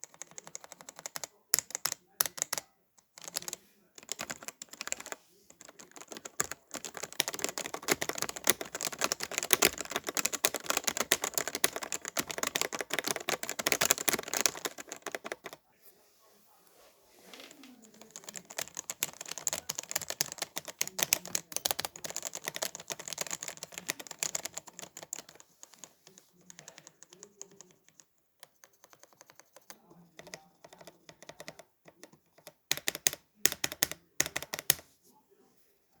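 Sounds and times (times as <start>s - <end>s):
mechanical keyboard clacking: 0.0s - 15.6s, 17.9s - 34.8s.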